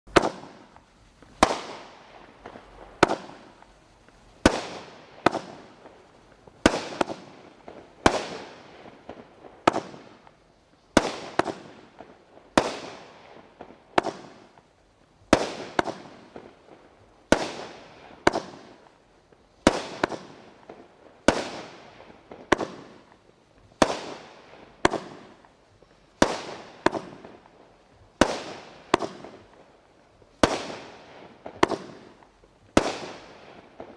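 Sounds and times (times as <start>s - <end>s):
firework bangs with hiss: 0.1s - 33.9s.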